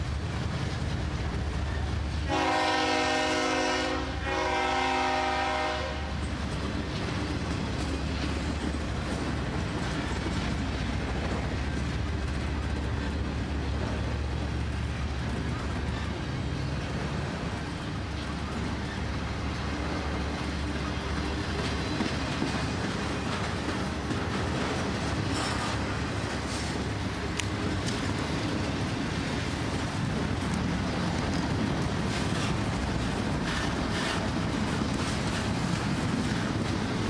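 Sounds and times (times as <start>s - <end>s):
steel wheels rumbling on rail: 0.0s - 37.0s
clacks over rail joints: 4.2s - 37.0s.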